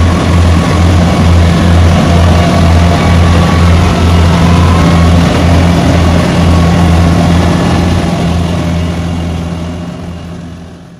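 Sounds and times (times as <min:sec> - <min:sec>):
combine harvester engine running: 0:00.0 - 0:10.9.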